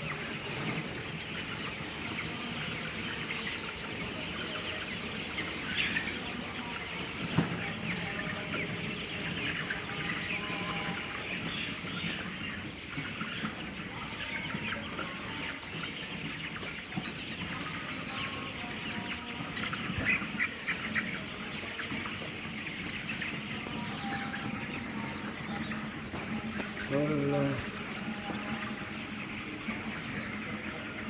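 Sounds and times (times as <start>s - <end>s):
chickens chattering: 0.0s - 31.0s.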